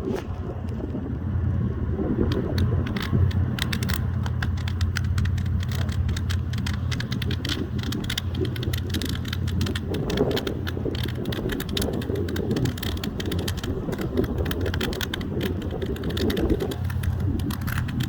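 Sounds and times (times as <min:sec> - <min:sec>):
vehicle engine idling hum: 0:00.0 - 0:18.0
sharp irregular clicks and crackles: 0:02.1 - 0:18.0.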